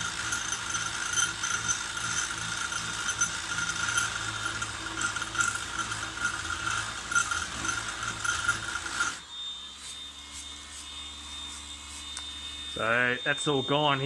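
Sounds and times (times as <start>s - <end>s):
orbital sander whirring on wood: 0.0s - 14.0s.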